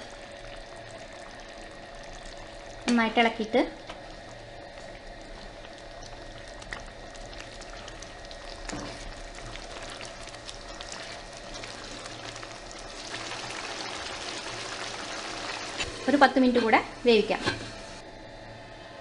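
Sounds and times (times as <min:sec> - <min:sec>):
curry sizzling in a pan: 0:00.0 - 0:18.0.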